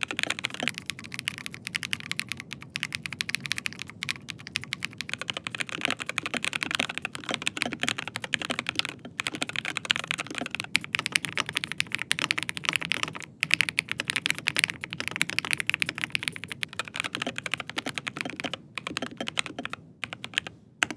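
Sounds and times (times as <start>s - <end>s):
fast mechanical keyboard typing: 0.0s - 20.9s.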